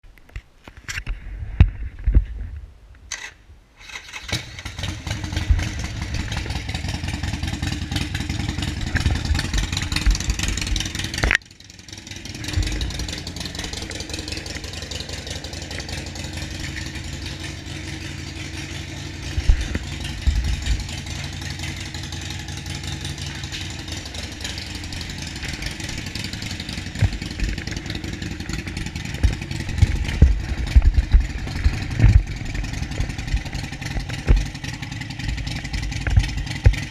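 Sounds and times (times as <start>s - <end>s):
motorcycle engine running: 4.0s - 36.9s.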